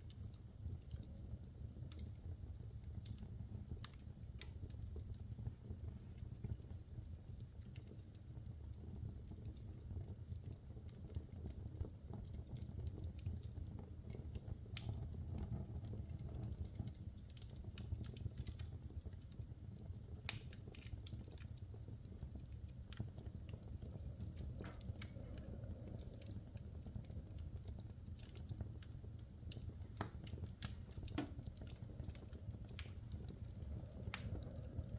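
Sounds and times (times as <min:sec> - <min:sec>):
fire flame rumble: 0:00.0 - 0:34.9
logs crackling and popping: 0:00.0 - 0:34.9.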